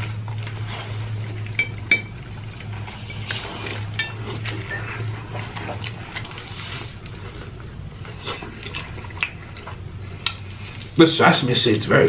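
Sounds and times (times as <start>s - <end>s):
crunchy chewing: 0.0s - 11.0s
low hum: 0.0s - 11.3s.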